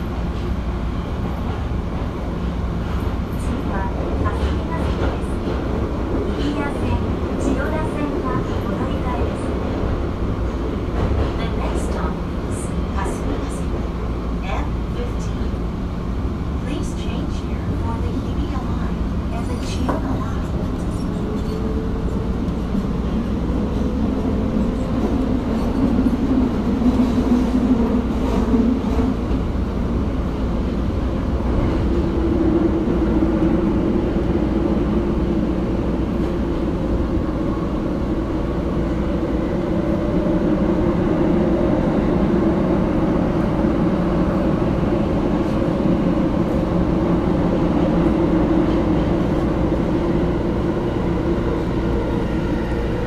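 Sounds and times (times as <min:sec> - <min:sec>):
wheels rumbling on rail: 0:00.0 - 0:53.0.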